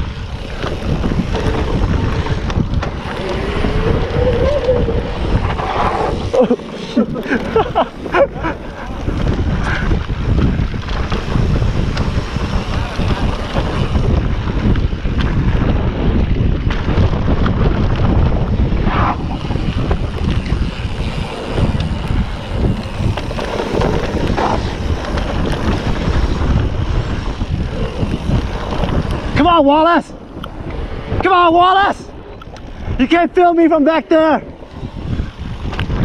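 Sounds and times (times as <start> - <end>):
bike tyres rumbling on dirt: 0.0 - 36.0
wind buffeting microphone: 0.0 - 36.0.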